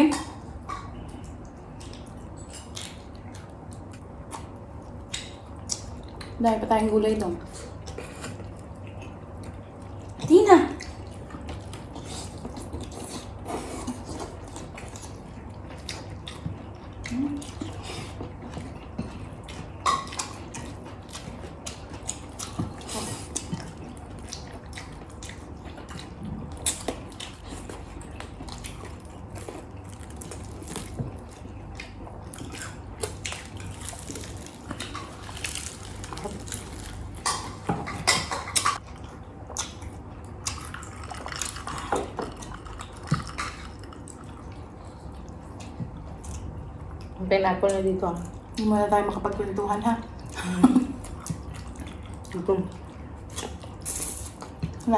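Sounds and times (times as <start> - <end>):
wet mouth eating sounds: 0.1 - 6.4, 7.4 - 48.7, 50.2 - 54.9.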